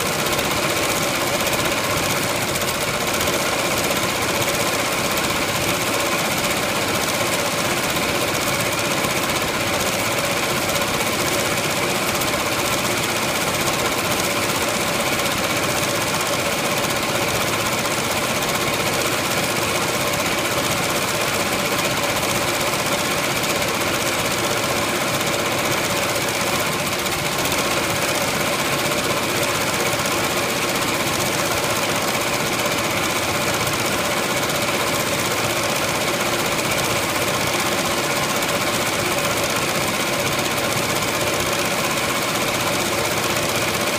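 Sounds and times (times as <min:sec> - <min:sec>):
embroidery machine stitching: 0:00.0 - 0:43.9.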